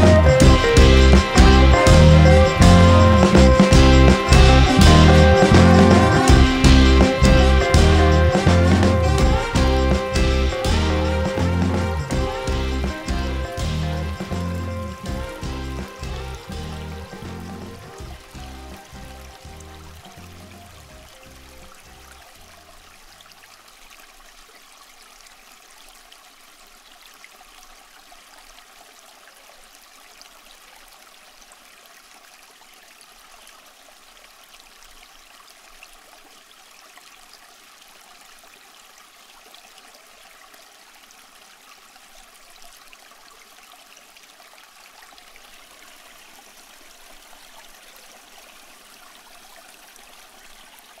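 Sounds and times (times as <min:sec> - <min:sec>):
running water trickling: 0:00.0 - 0:51.0.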